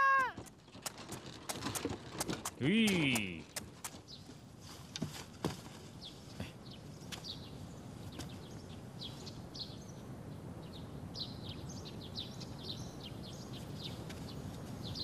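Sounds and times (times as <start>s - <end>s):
birds chirping: 0.0s - 15.0s
low background noise: 0.0s - 15.0s.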